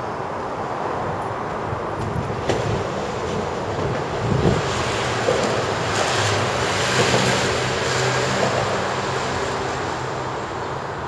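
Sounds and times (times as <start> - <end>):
passing traffic hum: 0.0 - 11.0.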